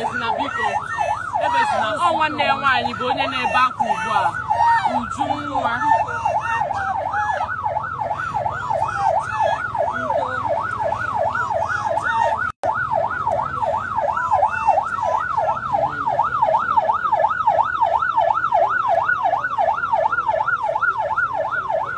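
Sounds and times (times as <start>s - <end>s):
electronic siren yelping: 0.0s - 21.9s.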